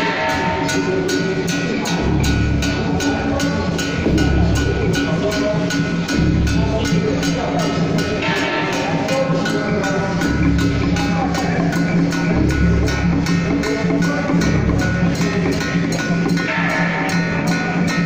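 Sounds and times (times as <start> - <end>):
heavy drum hits: 0.0 - 18.0
metallic percussion beat: 0.0 - 18.0.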